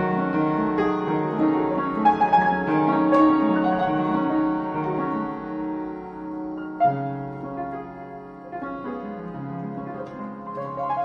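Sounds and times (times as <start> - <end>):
piano led film music: 0.0 - 11.0.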